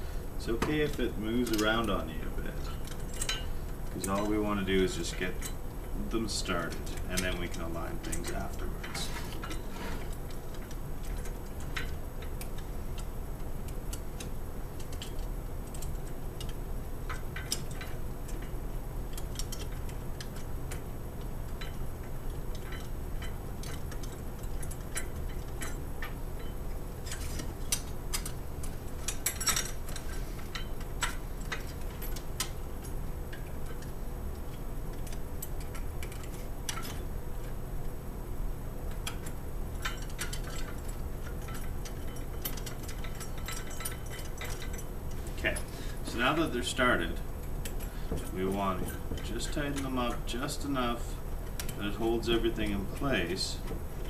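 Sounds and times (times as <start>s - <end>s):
steady low hum: 0.0s - 54.0s
metal parts clicking and tapping: 0.4s - 37.6s, 38.9s - 54.0s.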